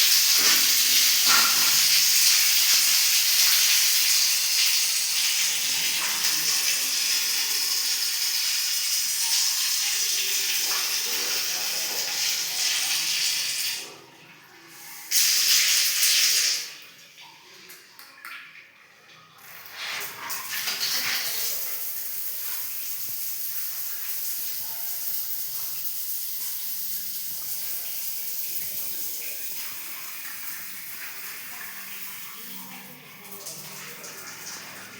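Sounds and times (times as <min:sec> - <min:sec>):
water running hard: 0:00.0 - 0:14.0, 0:19.4 - 0:34.9.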